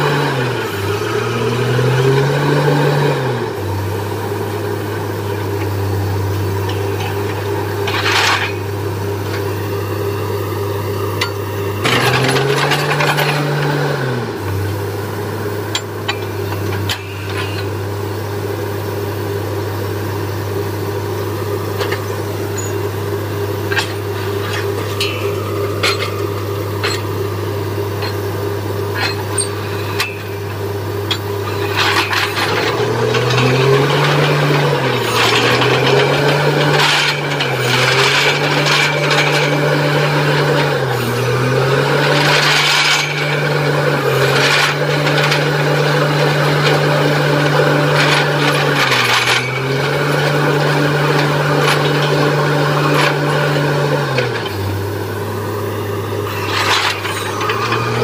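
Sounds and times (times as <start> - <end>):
drilling grinding and rasping: 0.0 - 18.2, 21.3 - 58.0
drilling rig engine: 0.0 - 58.0.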